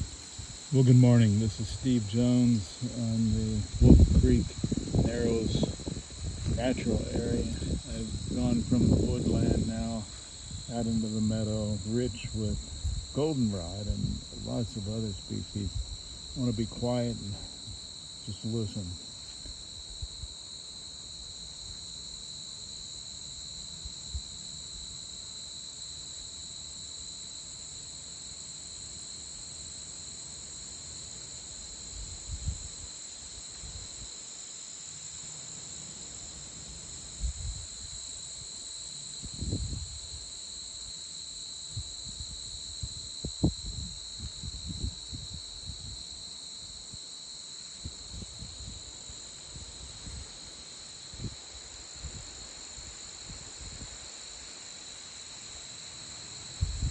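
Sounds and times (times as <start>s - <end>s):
crickets and insects trilling: 0.0s - 56.9s.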